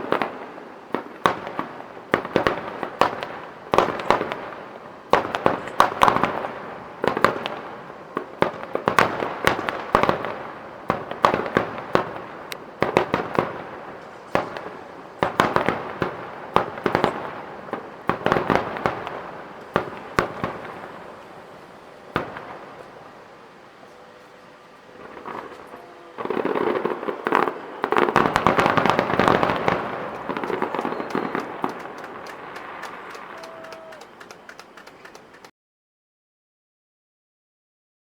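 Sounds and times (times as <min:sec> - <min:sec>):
fireworks bangs and cracks: 0:00.0 - 0:35.5.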